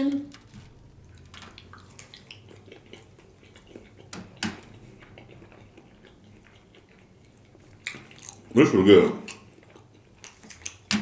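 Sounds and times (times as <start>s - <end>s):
quiet chewing: 0.0s - 10.9s.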